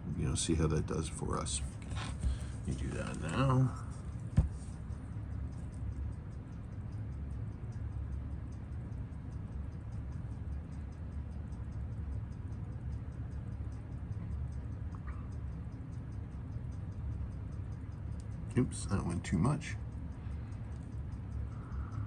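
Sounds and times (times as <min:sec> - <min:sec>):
steady low hum: 0:00.0 - 0:22.0
watch movement ticking: 0:00.2 - 0:22.0.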